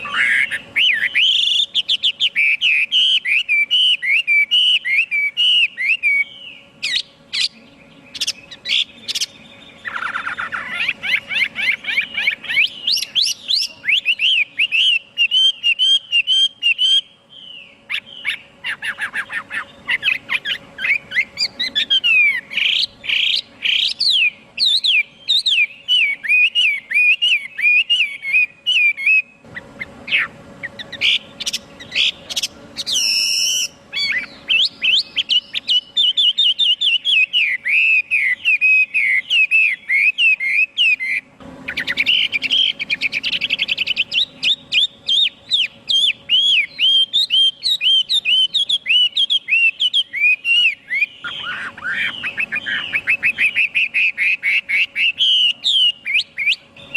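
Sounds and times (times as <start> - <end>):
bird singing whistled notes: 0.0 - 56.9.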